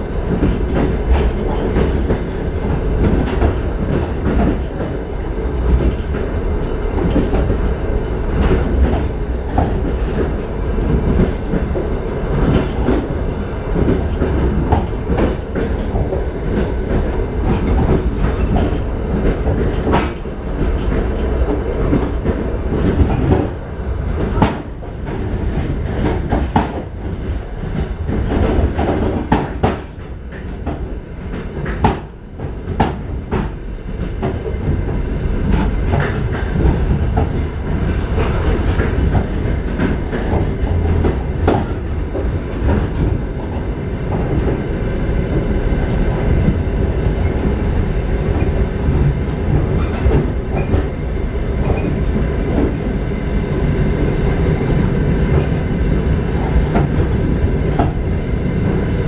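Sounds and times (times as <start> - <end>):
rail joints clickety-clack: 0.0 - 59.0
train wheels rumbling: 0.0 - 59.0.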